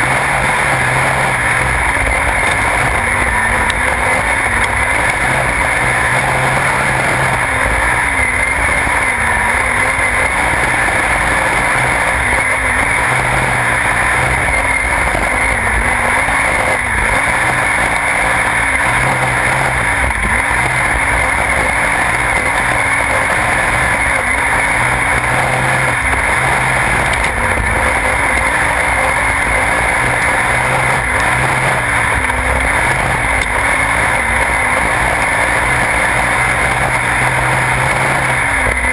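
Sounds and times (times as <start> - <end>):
racing engine at speed: 0.0 - 38.9
wind and tyre noise: 0.0 - 38.9.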